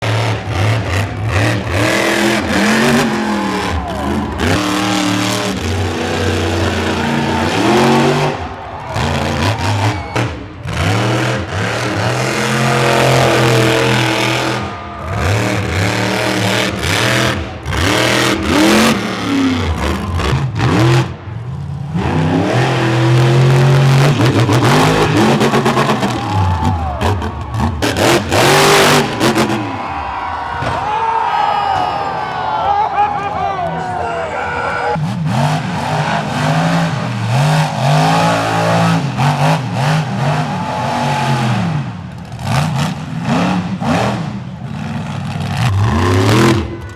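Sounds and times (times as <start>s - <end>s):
monster truck engines revving: 0.0s - 46.9s.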